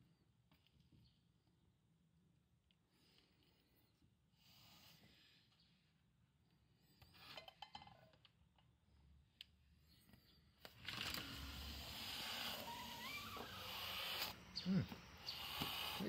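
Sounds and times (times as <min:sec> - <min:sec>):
outdoor noise: 0:00.0 - 0:16.0.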